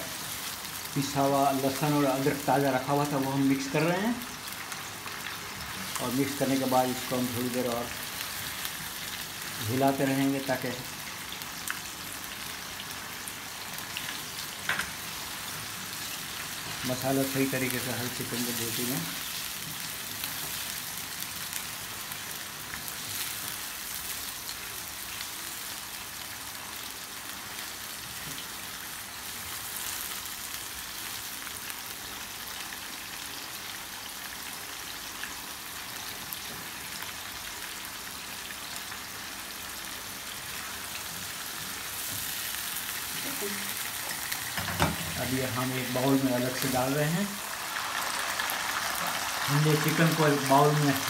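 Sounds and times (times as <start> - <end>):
chicken sizzling in hot oil: 0.0 - 51.0.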